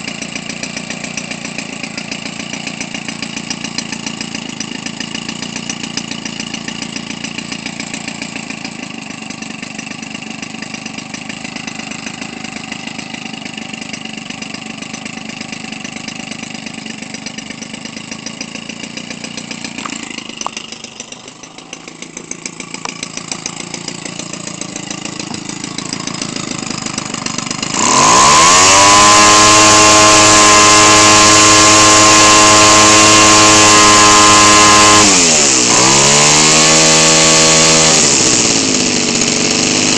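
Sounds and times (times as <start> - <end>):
two-stroke engine turning a propeller: 0.0 - 39.9.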